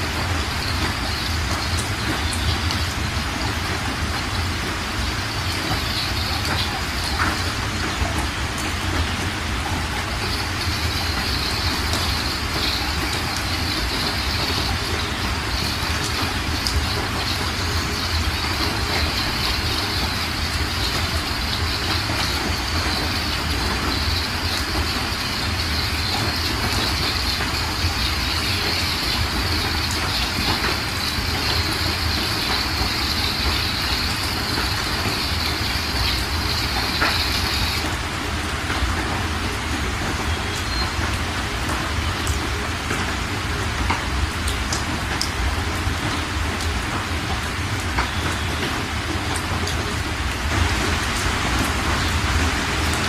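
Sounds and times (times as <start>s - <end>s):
floodwater rushing over stones: 0.0s - 53.0s.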